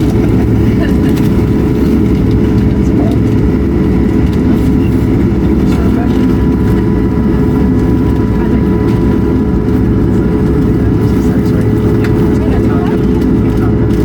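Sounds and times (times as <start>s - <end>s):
aircraft cabin rumble taxiing: 0.0s - 14.0s
faint engine whine: 0.0s - 14.0s.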